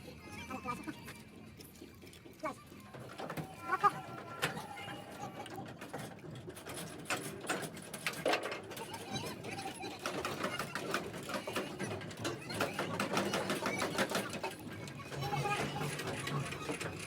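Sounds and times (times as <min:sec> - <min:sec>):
faint voices: 0:00.0 - 0:17.0.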